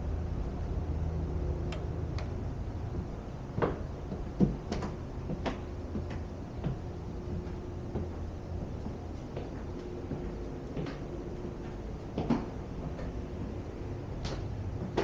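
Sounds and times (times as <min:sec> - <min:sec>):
footsteps on stairs: 0:02.8 - 0:15.0.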